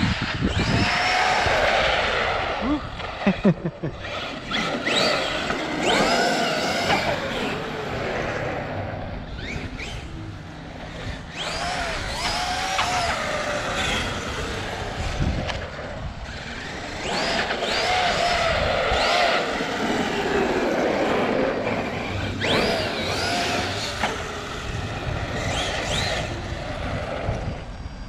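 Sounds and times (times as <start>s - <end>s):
electric motor whining: 0.0s - 3.2s, 3.9s - 28.0s.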